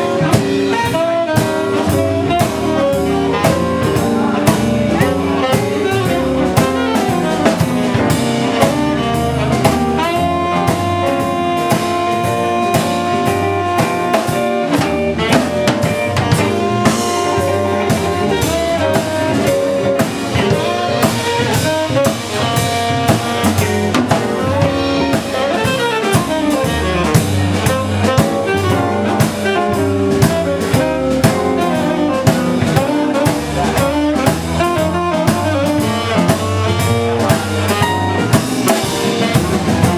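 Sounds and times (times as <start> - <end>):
drum kit beat: 0.0 - 39.9
held horn notes: 0.0 - 39.9.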